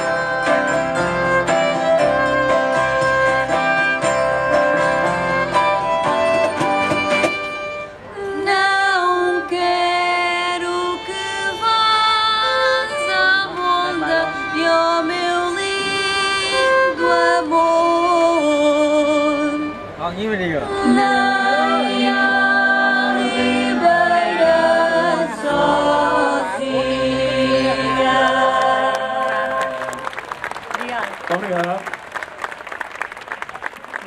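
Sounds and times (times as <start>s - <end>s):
violin melody with vibrato: 0.0s - 30.0s
keyboard accompaniment: 0.0s - 31.0s.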